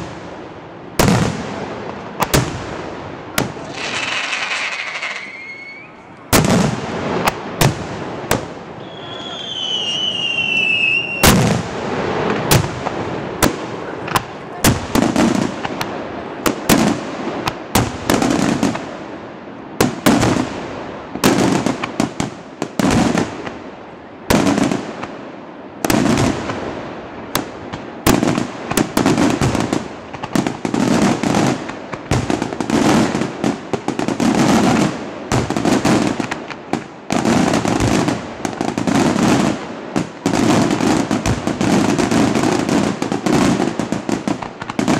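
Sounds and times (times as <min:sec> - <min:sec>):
fireworks bangs with echo: 0:00.0 - 0:44.9.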